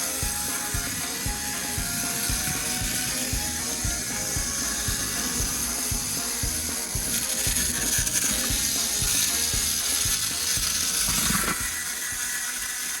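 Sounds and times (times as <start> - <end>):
toy train motor whirring: 0.0 - 13.0
train wheels clicking on track: 0.0 - 13.0.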